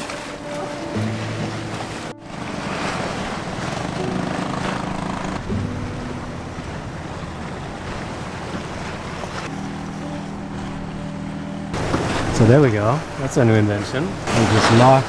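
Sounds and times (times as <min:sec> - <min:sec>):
choppy sea against rocks: 0:00.0 - 0:15.0
wind buffeting microphone: 0:00.0 - 0:15.0.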